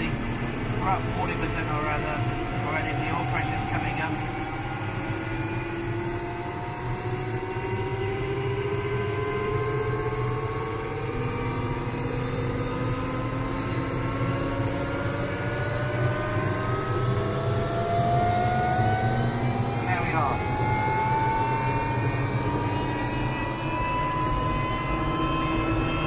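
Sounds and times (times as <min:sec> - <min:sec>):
helicopter engine whine rising: 0:00.0 - 0:26.0
steady low hum: 0:00.0 - 0:26.0.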